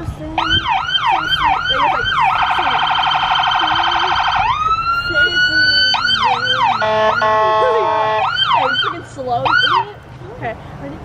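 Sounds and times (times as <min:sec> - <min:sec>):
fire truck siren: 0:00.4 - 0:10.0.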